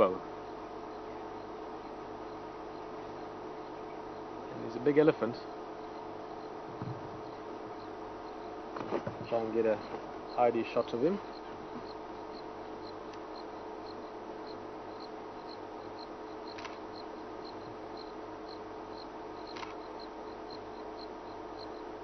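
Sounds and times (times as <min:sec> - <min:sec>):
bush insects chirping: 0:00.0 - 0:22.0
steady low hum: 0:00.0 - 0:22.0.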